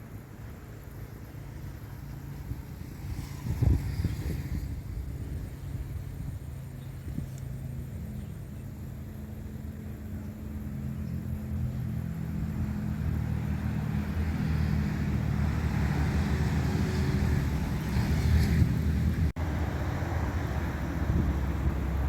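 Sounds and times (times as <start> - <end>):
motor vehicle engine rumble: 0.0 - 22.0.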